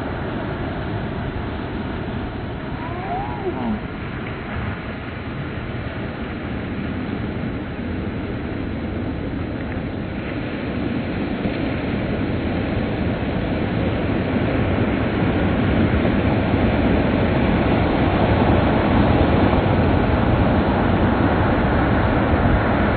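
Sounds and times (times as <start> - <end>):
waves breaking and foaming: 0.0 - 22.9.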